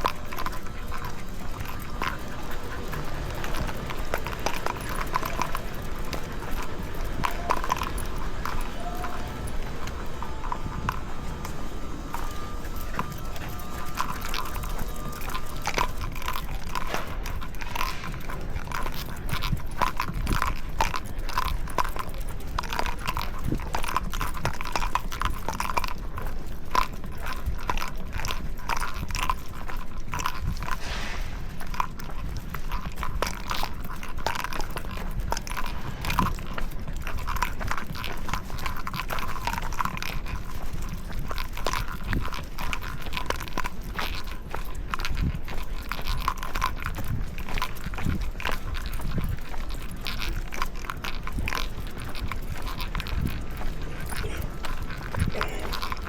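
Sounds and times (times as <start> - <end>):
constant low rumble: 0.0 - 56.0
light clicks and scuffs of walking: 0.0 - 56.0.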